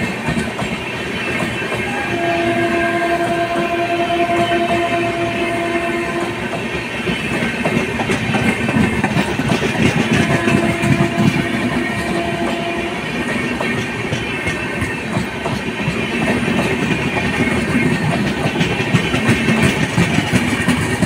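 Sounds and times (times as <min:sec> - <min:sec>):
train wheels rumbling and clattering: 0:00.0 - 0:21.0.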